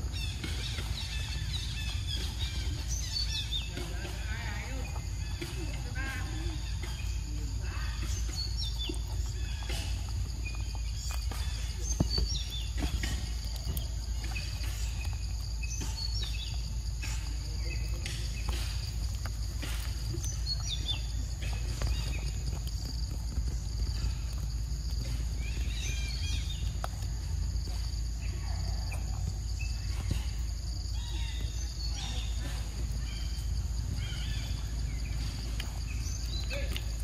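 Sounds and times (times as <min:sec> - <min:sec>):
falling bird calls: 0:00.0 - 0:37.0
insect chorus: 0:00.0 - 0:37.0.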